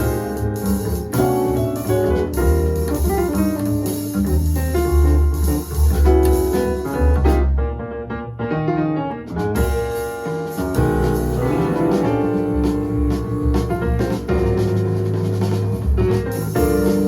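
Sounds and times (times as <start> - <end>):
walking double bass: 0.0 - 7.8, 9.3 - 17.0
piano melody: 0.0 - 17.0.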